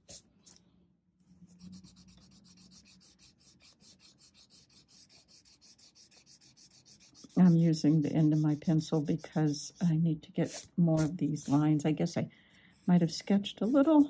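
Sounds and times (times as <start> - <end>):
eraser rubbing on paper: 1.5 - 12.1, 12.8 - 14.0.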